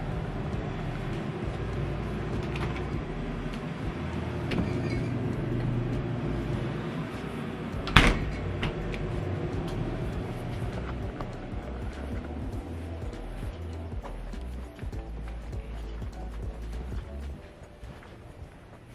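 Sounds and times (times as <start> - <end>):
cooler low hum: 0.0 - 18.9.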